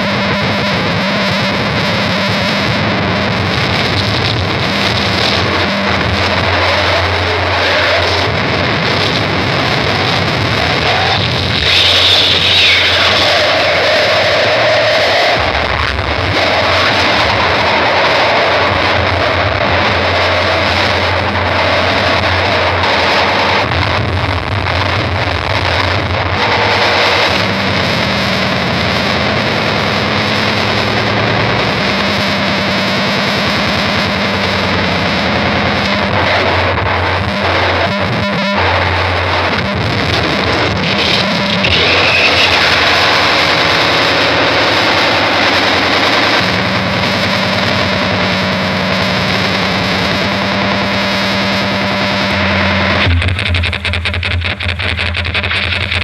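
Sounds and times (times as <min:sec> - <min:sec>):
distorted wall of noise: 0:00.0 - 0:56.0
low drone: 0:02.4 - 0:56.0.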